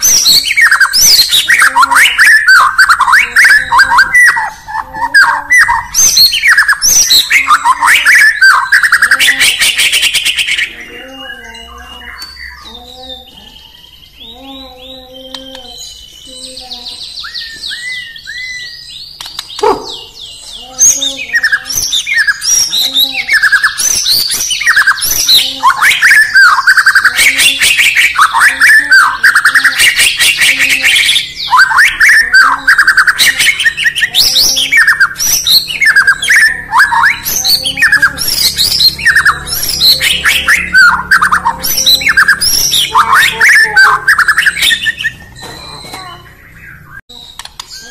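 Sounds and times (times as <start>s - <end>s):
songbird singing whistles and chirps: 0.0s - 47.9s.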